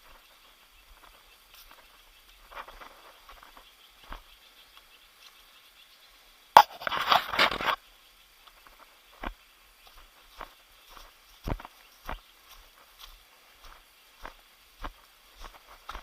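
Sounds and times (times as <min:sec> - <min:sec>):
footsteps on a trail: 0:00.0 - 0:05.7, 0:06.6 - 0:16.0.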